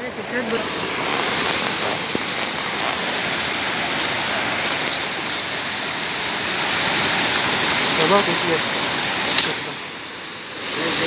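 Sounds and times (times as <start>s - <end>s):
steady hiss of water: 0.0s - 11.0s.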